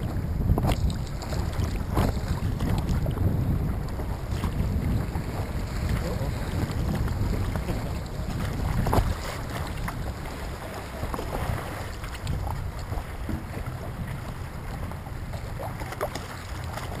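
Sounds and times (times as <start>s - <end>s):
water splashing against a board: 0.0s - 17.0s
wind rumble on microphone: 0.0s - 17.0s.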